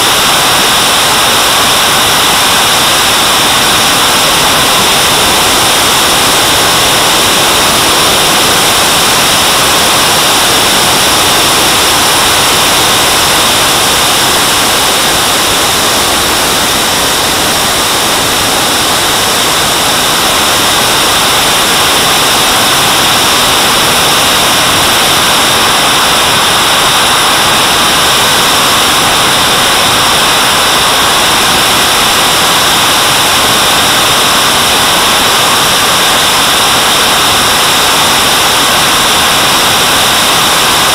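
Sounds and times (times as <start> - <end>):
airflow rush: 0.0 - 40.9
high turbine whine: 0.0 - 40.9
jet turbine roaring: 0.0 - 40.9.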